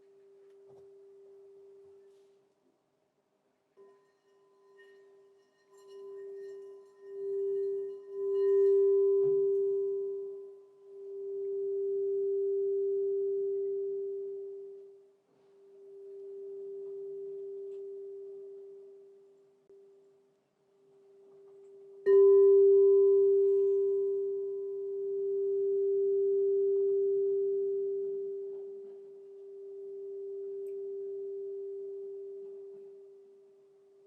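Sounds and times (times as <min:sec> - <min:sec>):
singing bowl ringing: 0:03.8 - 0:20.0, 0:21.1 - 0:33.6.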